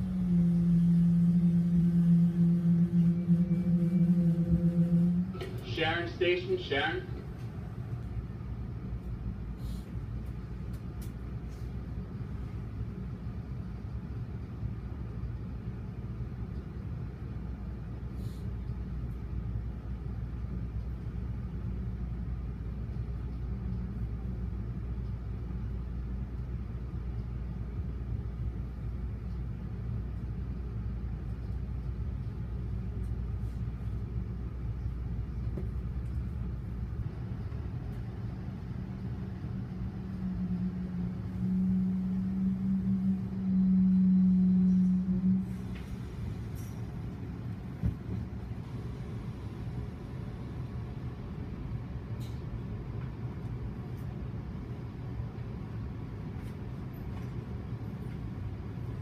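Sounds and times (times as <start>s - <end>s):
low hum: 0.0s - 59.0s
train rumbling: 0.0s - 59.0s.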